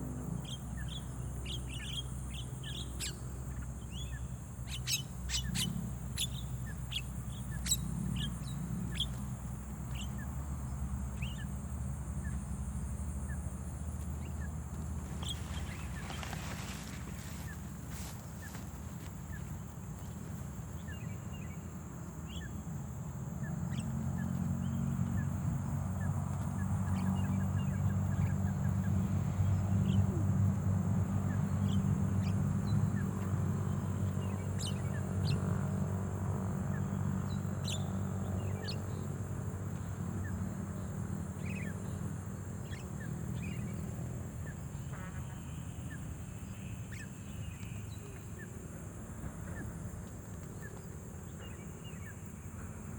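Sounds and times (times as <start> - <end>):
low engine-like hum: 0.0 - 52.9.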